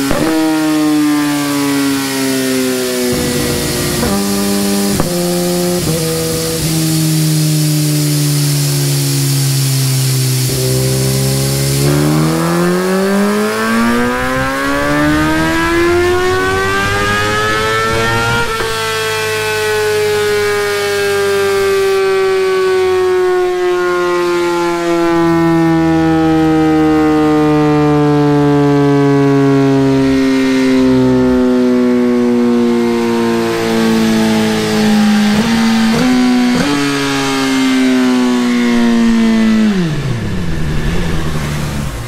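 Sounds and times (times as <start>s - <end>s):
motorcycle engine running hard: 0.0s - 22.2s, 29.9s - 42.0s.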